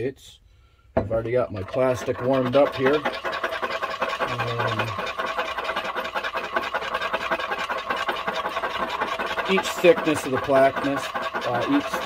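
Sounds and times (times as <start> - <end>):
metal spoon scraping glass cup: 1.2 - 12.0.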